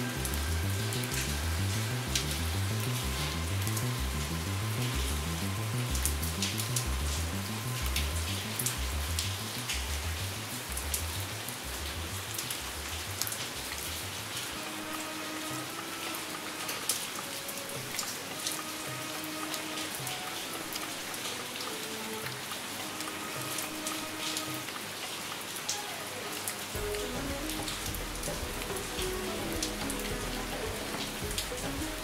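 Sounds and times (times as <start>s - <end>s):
calm background music: 0.0s - 32.0s
steady rain: 0.0s - 32.0s.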